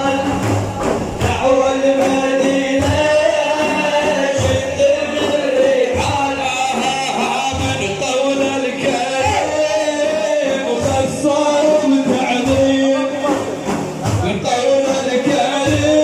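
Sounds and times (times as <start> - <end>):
deep drum beats: 0.0 - 16.0
men singing devotional praise: 0.0 - 16.0.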